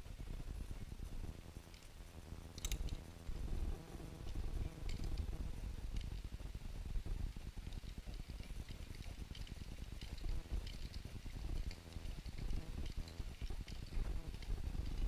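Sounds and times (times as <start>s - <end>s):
faint scattered ticks: 0.0s - 15.0s.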